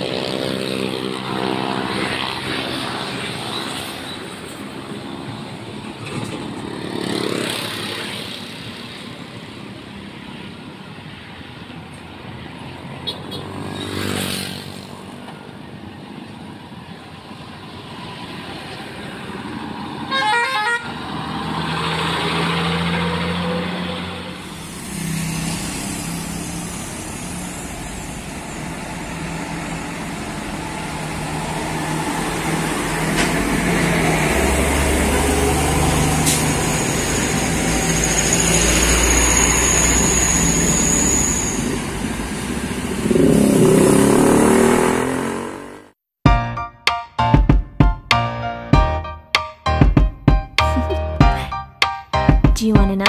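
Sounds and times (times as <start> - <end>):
truck diesel engines: 0.0 - 45.9
passing traffic: 0.0 - 46.0.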